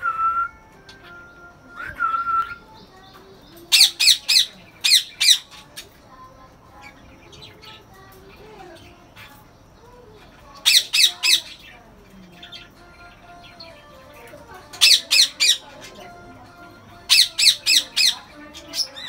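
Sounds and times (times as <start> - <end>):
parakeets chattering: 0.8 - 19.0
parakeets squawking: 2.6 - 6.1, 6.7 - 19.0.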